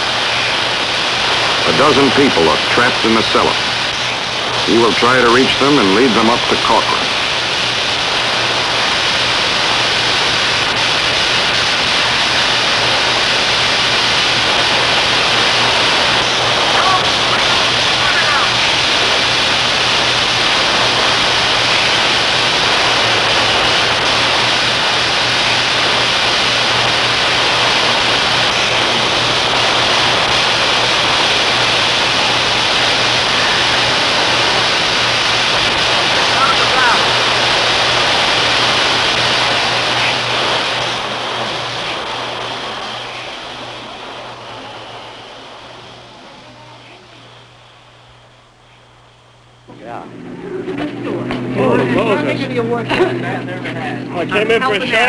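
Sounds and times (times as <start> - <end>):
steam hissing from a leak: 0.0 - 48.4.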